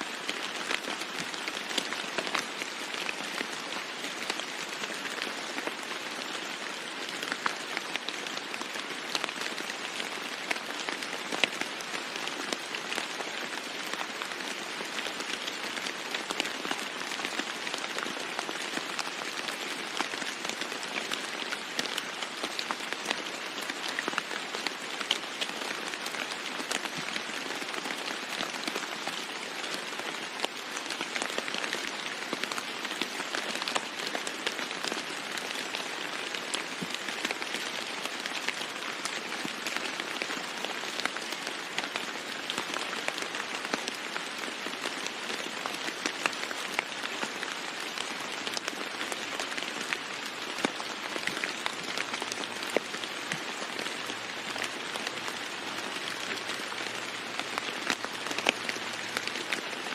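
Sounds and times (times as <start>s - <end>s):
rain falling on a roof: 0.0s - 59.9s.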